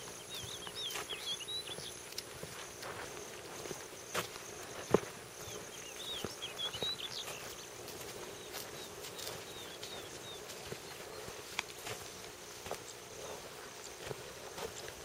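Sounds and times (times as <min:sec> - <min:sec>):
birds chirping: 0:00.0 - 0:15.0
insect hum: 0:00.0 - 0:15.0.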